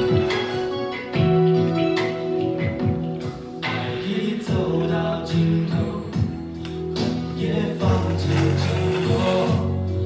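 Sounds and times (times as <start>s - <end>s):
background song: 0.0s - 10.0s.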